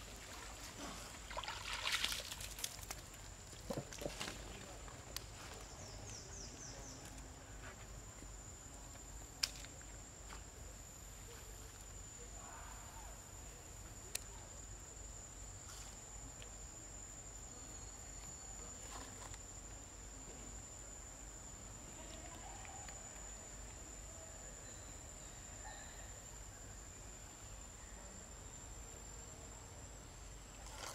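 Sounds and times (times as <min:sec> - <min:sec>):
faint outdoor ambience: 0:00.0 - 0:30.9
high insect drone: 0:00.0 - 0:30.9.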